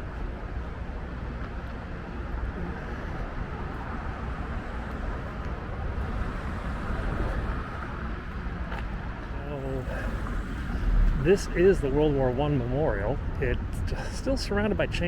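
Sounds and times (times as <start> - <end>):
road traffic passing: 0.0 - 14.0
continuous low rumble: 0.0 - 15.0.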